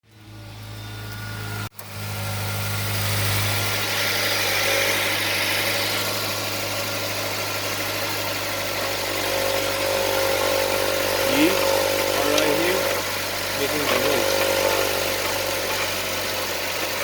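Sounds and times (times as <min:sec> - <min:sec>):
car engine idling: 0:00.2 - 0:17.0.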